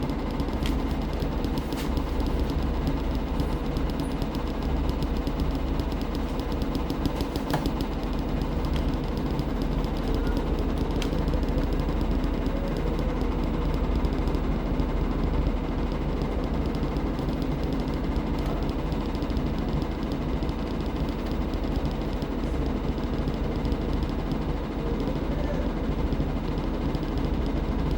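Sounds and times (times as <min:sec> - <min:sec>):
washing machine running: 0:00.0 - 0:27.9.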